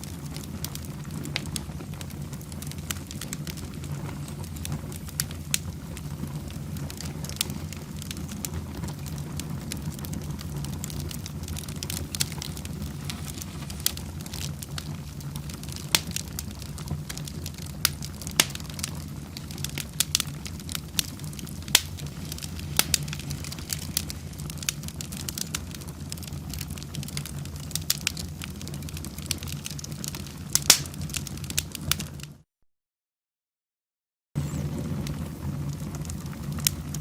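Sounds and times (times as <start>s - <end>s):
wood fire crackling: 0.0s - 32.4s, 34.4s - 37.0s.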